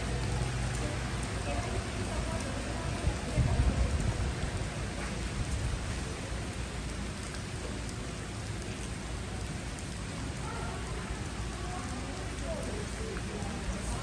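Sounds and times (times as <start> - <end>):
rain on wet pavement: 0.0 - 14.0.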